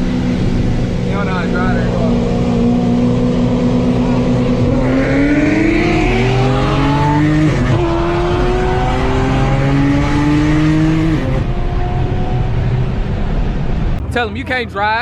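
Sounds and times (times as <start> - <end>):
car engine accelerating hard: 0.0 - 14.2.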